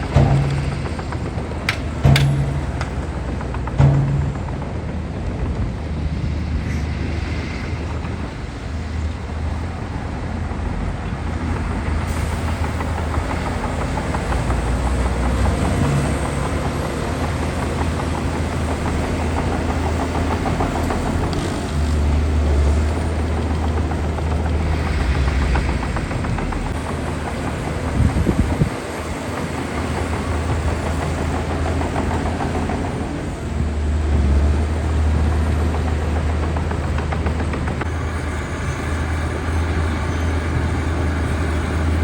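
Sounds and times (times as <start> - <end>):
heavy diesel machinery rumbling: 0.0 - 42.0.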